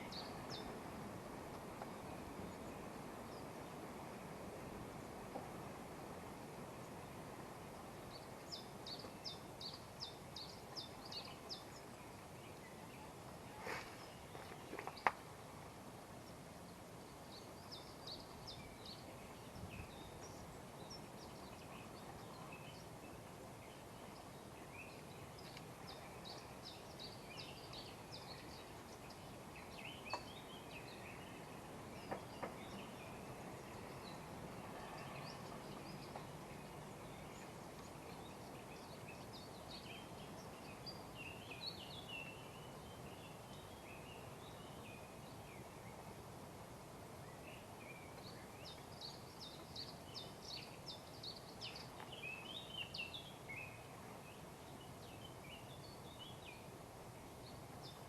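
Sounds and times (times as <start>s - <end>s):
small birds singing: 0.0s - 0.9s, 6.7s - 15.4s, 16.1s - 46.3s, 47.1s - 58.0s
steady outdoor hiss: 0.0s - 58.0s.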